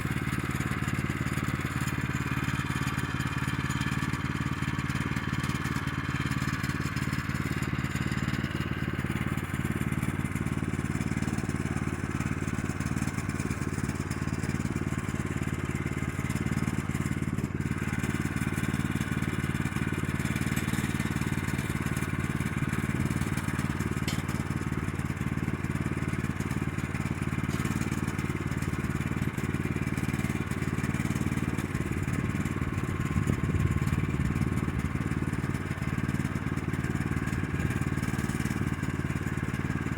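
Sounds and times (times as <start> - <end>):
small gas engine running: 0.0 - 39.9.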